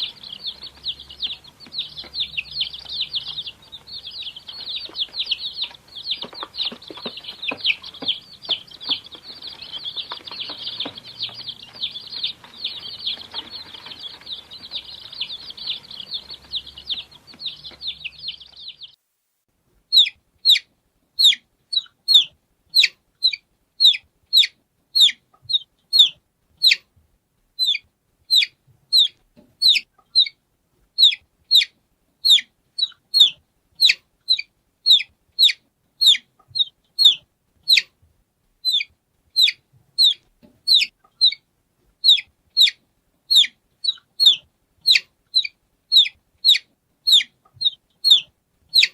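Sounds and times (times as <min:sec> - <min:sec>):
baby chicks peeping: 0:00.0 - 0:19.0, 0:19.9 - 0:27.0, 0:27.6 - 0:38.0, 0:38.6 - 0:48.9.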